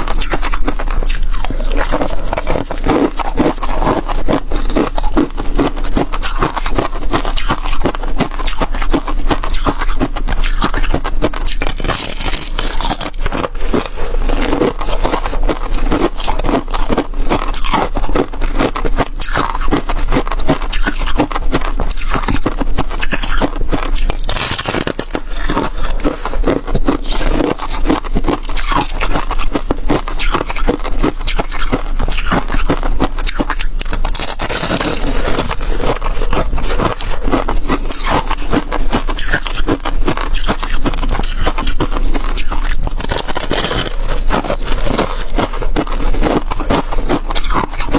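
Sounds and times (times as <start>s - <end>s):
ice being chewed: 0.0s - 47.9s.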